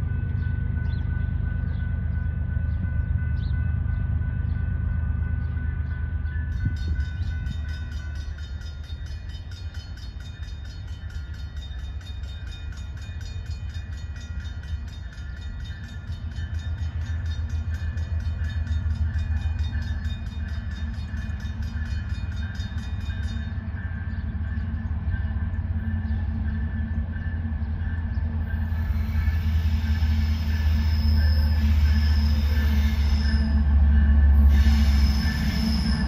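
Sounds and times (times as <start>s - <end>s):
diesel locomotive engine rumble: 0.0s - 36.0s.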